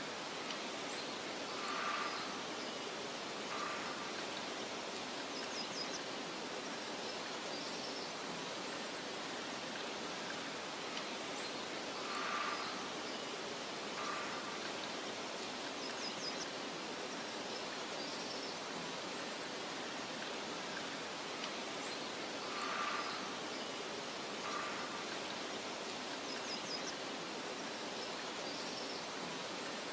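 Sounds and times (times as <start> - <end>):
outdoor ambience hiss: 0.0 - 29.9.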